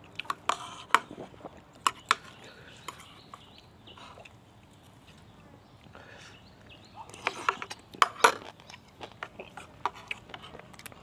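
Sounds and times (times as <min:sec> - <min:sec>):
crunching while chewing crisp food: 0:00.0 - 0:06.0, 0:07.0 - 0:11.0.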